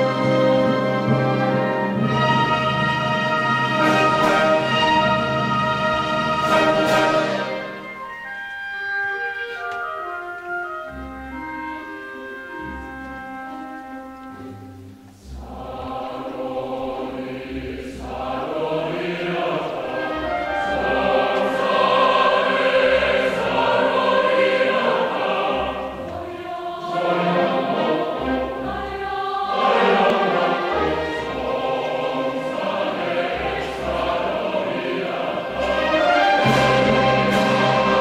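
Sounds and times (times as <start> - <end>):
choir singing with orchestra: 0.0 - 9.5, 14.2 - 38.0.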